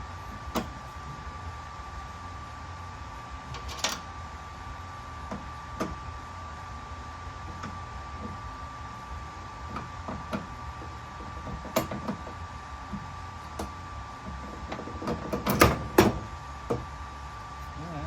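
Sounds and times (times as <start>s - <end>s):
faint high hum: 0.0s - 18.0s.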